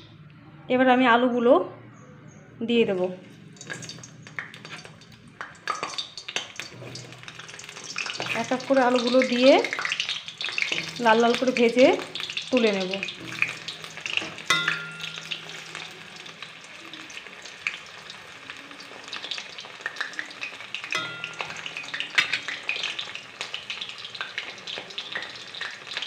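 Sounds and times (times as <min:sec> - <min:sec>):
oil crackling and popping: 0:03.3 - 0:26.0
potatoes sizzling in hot oil: 0:03.4 - 0:26.0.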